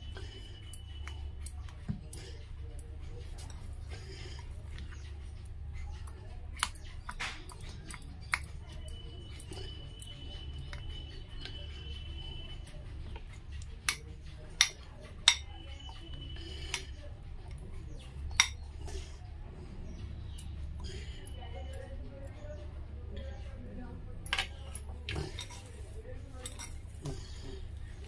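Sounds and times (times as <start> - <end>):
spoon stirring mashed potato: 0.0 - 28.0.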